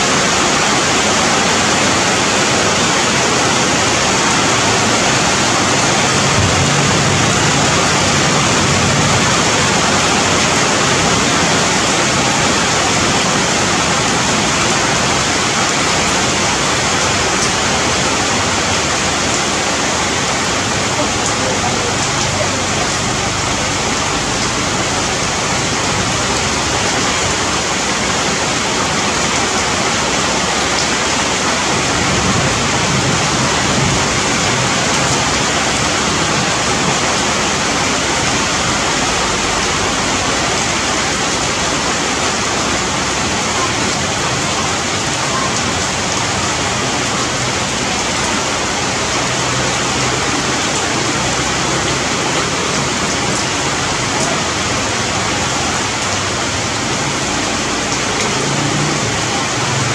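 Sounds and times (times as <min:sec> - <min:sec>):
rain on foliage: 0:00.0 - 0:59.9.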